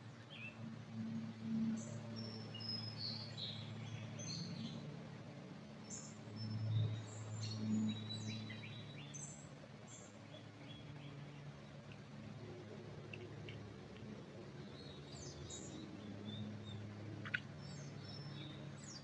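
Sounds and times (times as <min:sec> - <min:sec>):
low background hum: 0:00.0 - 0:19.0
songbirds chirping: 0:00.0 - 0:19.0.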